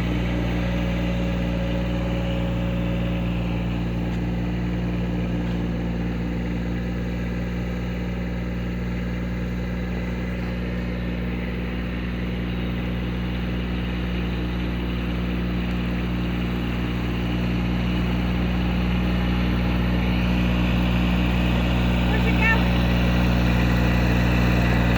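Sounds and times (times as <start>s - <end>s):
tractor engine idling: 0.0s - 24.9s.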